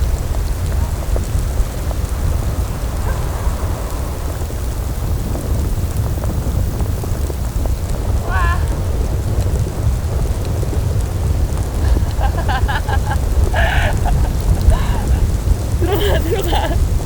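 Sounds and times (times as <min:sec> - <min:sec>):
wind buffeting tent: 0:00.0 - 0:17.0.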